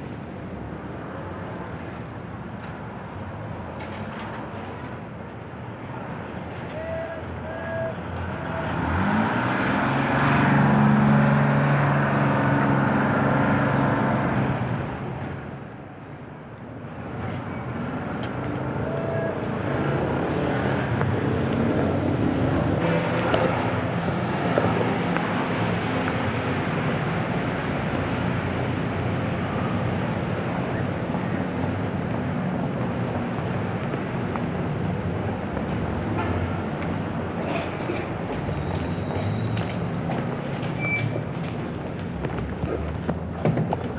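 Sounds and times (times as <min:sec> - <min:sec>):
traffic noise: 0:00.0 - 0:43.9
bus engine running: 0:01.7 - 0:43.9.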